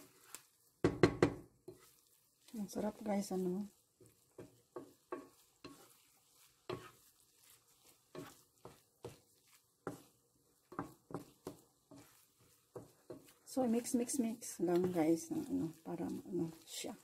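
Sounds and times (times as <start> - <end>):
faint sizzle of frying meat: 0.0 - 17.0
wooden spatula scraping a pan: 0.0 - 17.0.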